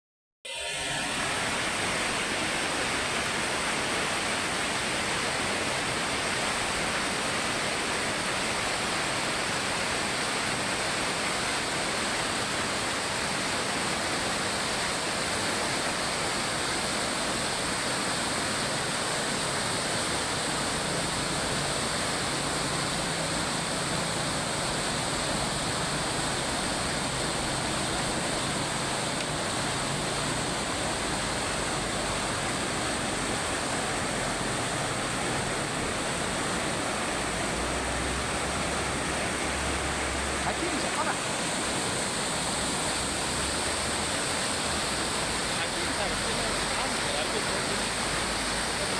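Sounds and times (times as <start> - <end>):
fast-flowing water rushing: 0.6 - 48.9.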